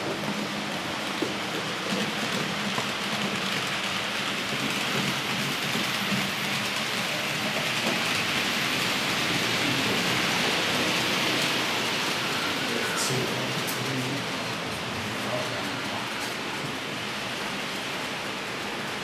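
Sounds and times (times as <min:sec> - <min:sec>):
model train wheels rolling on rails: 0:00.0 - 0:19.0.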